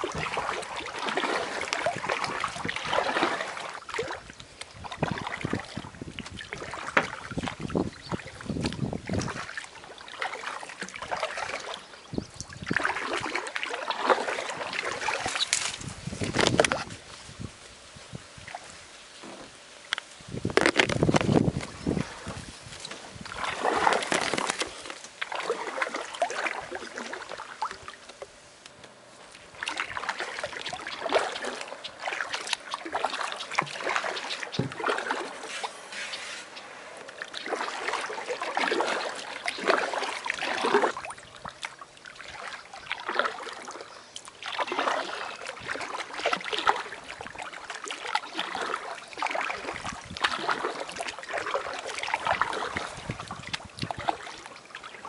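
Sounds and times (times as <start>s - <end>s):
paddle splashing in water: 0.0s - 17.6s, 20.4s - 55.0s.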